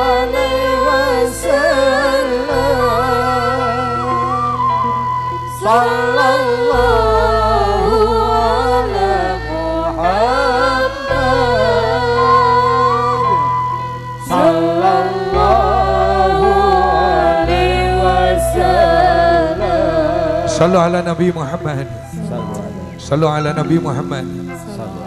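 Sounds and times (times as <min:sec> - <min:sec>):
person singing melismatic notes: 0:00.0 - 0:25.0
sustained low bass notes: 0:00.0 - 0:25.0.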